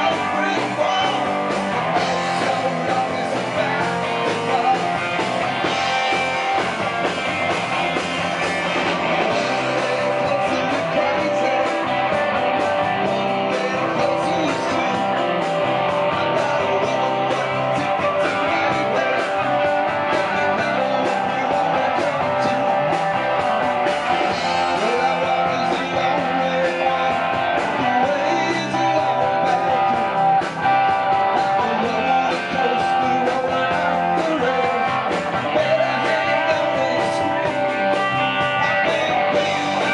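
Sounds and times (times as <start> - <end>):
man singing into microphone: 0.0 - 5.7, 9.2 - 23.2, 24.3 - 30.3, 31.4 - 39.9
bass guitar: 0.0 - 39.9
drums: 0.0 - 39.9
electric guitars: 0.0 - 39.9.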